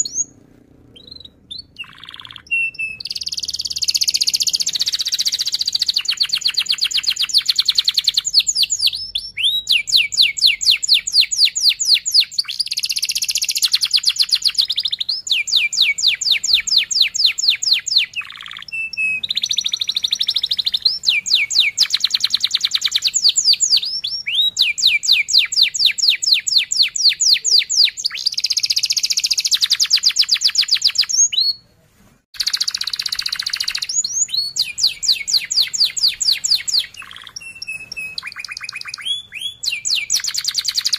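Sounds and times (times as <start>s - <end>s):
canary singing trills: 0.0s - 31.6s, 32.4s - 40.9s.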